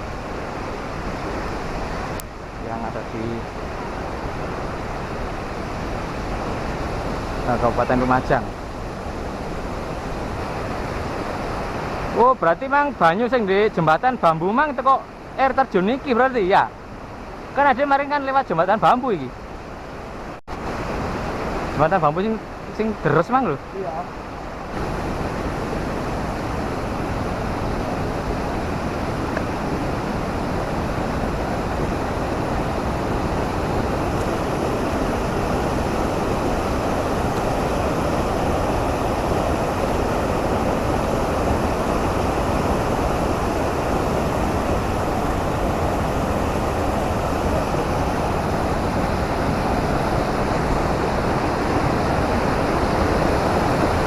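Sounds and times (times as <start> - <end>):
fast-flowing river water: 0.0 - 54.0.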